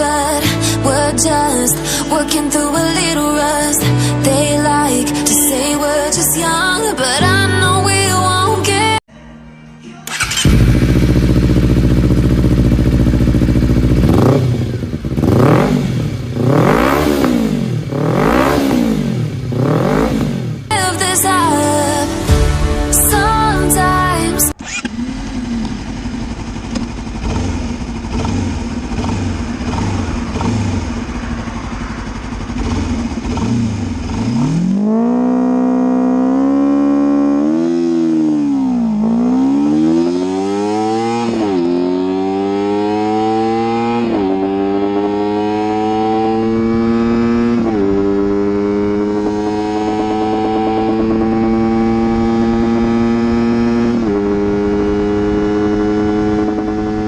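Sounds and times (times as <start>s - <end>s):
motorcycle engine accelerating: 10.0s - 57.0s.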